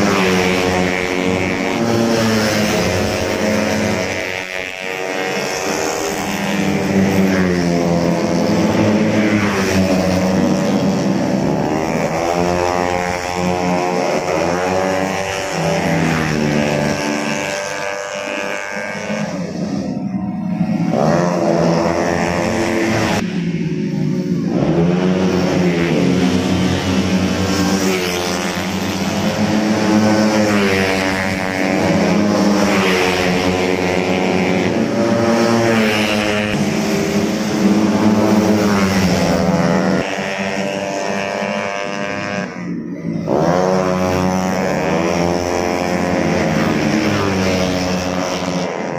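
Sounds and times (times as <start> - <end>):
drone of engines: 0.0 - 48.9
scooter engines racing past: 0.0 - 48.9.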